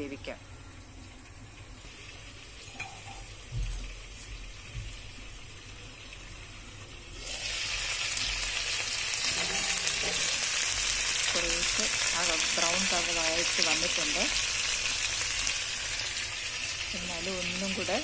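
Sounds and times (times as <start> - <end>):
chicken sizzling in pan: 1.8 - 18.0.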